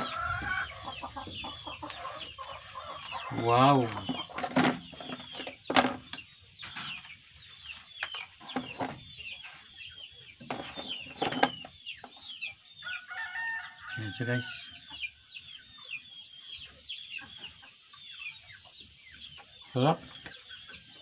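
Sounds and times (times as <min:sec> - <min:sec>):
chickens clucking and peeping: 0:00.0 - 0:21.0.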